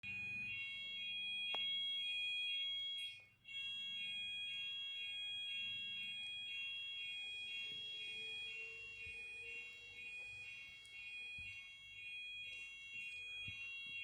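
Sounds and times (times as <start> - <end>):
fire alarm warbling tone: 0.0 - 14.0.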